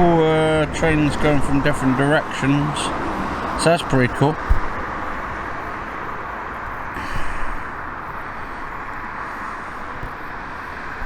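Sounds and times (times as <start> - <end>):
distant vehicle rumble: 0.0 - 11.0.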